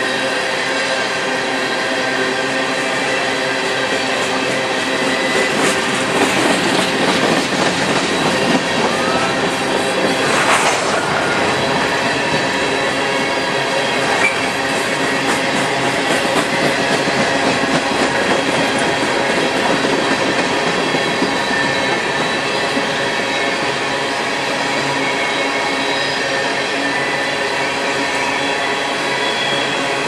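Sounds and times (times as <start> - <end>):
train wheels rumbling and rattling: 0.0 - 30.0.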